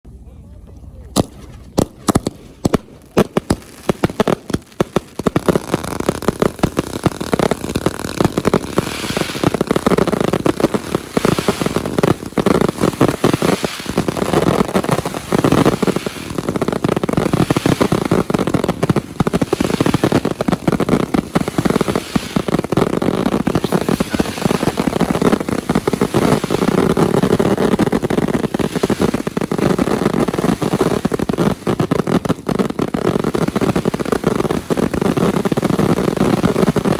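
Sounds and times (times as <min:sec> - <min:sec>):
fireworks bangs and crackling: 0:01.1 - 0:36.9.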